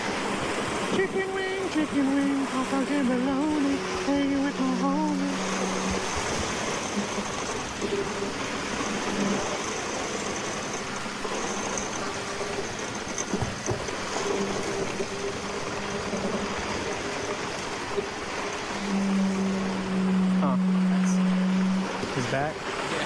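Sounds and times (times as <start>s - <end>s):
concrete pump rushing: 0.0s - 23.0s.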